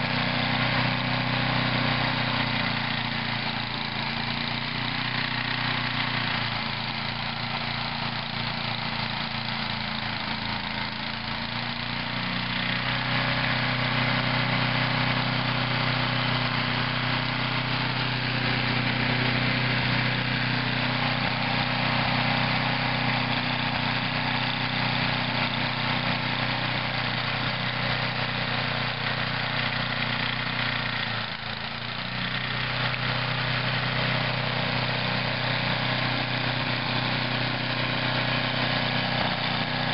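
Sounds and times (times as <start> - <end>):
snow thrower engine running: 0.0 - 39.9.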